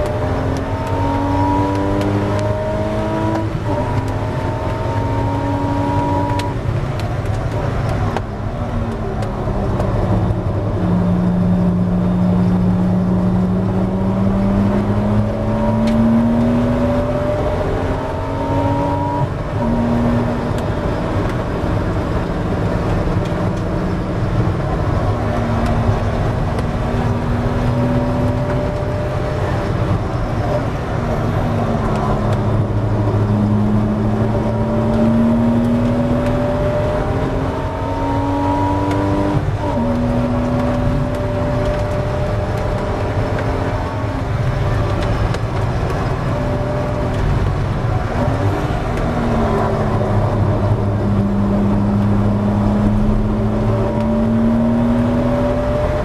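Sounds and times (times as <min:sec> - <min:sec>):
car engine revving: 0:00.0 - 0:56.0
road and tyre noise: 0:00.0 - 0:56.0.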